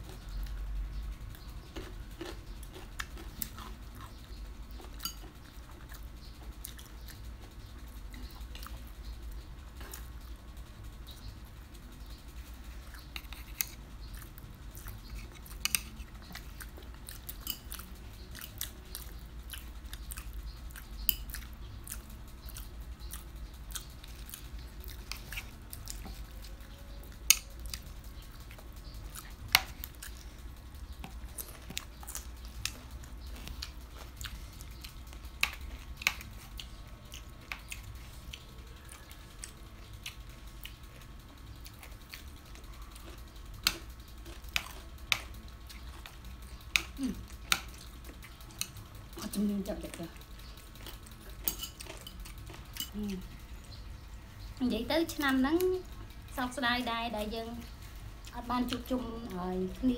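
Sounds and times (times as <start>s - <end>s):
chewing and biting food: 0.0s - 10.4s, 12.5s - 53.8s.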